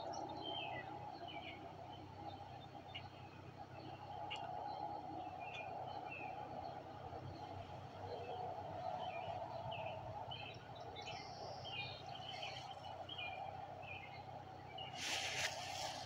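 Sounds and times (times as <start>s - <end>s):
distant songbirds chirping: 0.0s - 16.0s
steady background hum: 0.0s - 16.0s.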